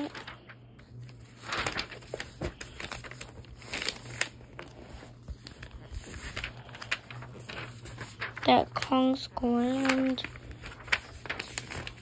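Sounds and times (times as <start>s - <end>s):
magazine pages rustling: 0.0s - 12.0s.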